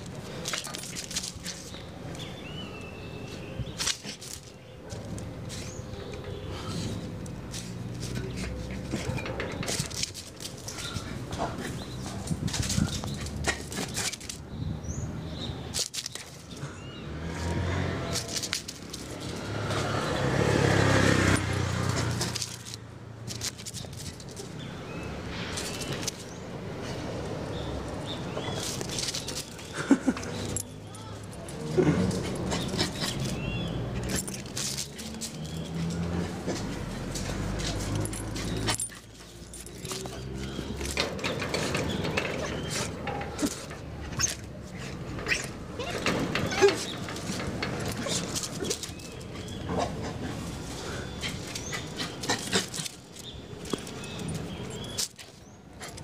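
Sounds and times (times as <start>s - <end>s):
puppy claws scrabbling on concrete: 0.0s - 56.0s
vehicle passing by: 0.0s - 56.0s.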